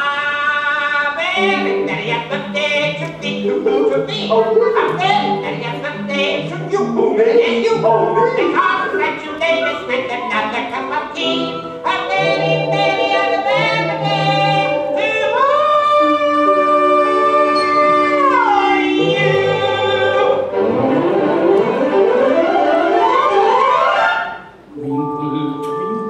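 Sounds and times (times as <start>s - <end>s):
sung melody over accompaniment: 1.4s - 26.0s.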